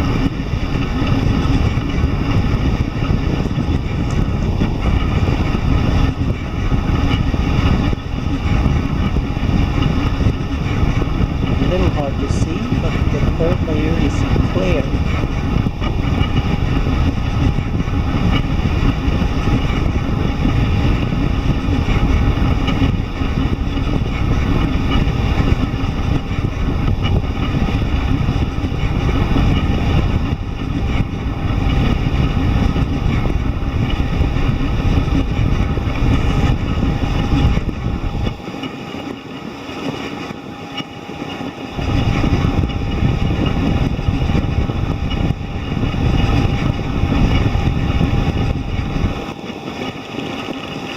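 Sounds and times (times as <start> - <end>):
three d printer running: 0.0 - 50.9.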